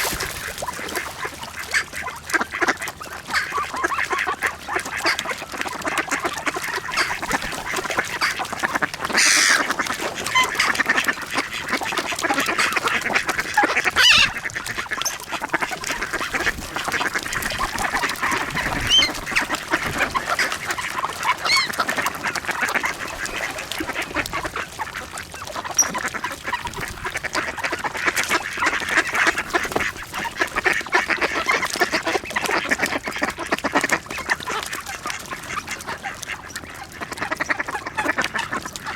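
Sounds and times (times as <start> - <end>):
flock of ducks quacking: 0.0 - 38.9.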